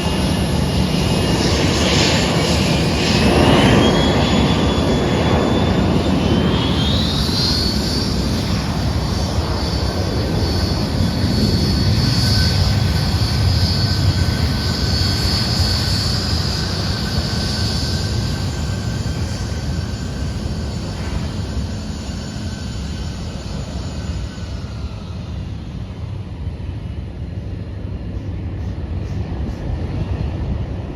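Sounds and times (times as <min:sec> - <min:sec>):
high jet whine: 0:00.0 - 0:30.9
jet engine roar: 0:00.0 - 0:30.9.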